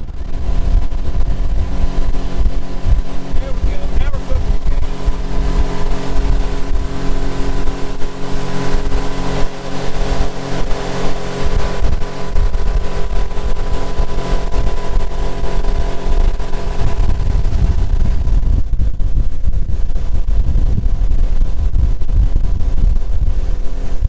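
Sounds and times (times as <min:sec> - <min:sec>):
outboard motor running: 0:00.0 - 0:24.0
wind buffeting microphone: 0:00.0 - 0:24.0.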